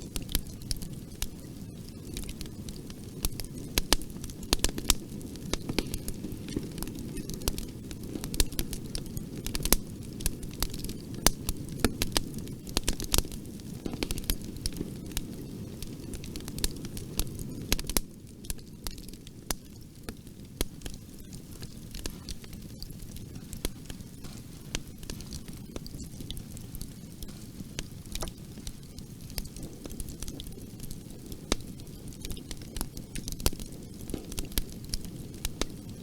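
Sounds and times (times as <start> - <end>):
burning wood crackling: 0.0 - 36.0
low rumble of flame: 0.0 - 36.0.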